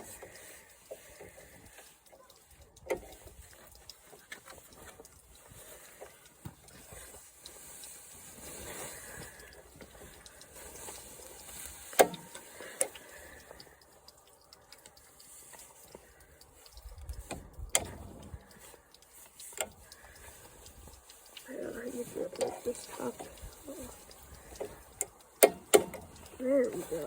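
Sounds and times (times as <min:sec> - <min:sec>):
clicks and knocks of tools: 0:00.0 - 0:27.0.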